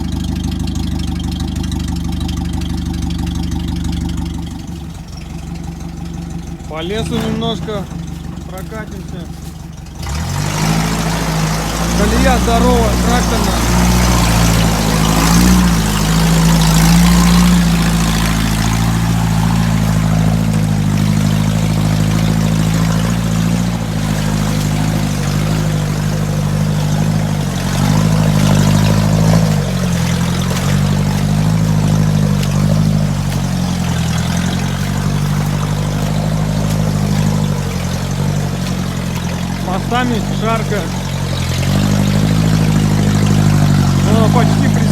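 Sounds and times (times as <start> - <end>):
unmuffled car engine revving: 0.0 - 44.9.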